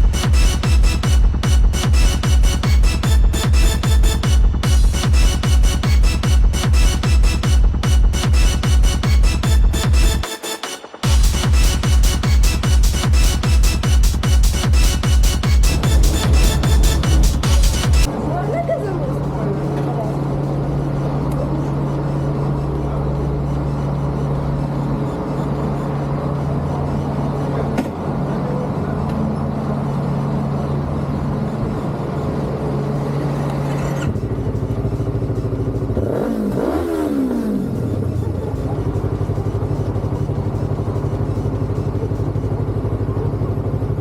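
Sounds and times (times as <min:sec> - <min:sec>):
motorcycle engine idling and revving: 0:00.0 - 0:10.3, 0:11.0 - 0:44.0.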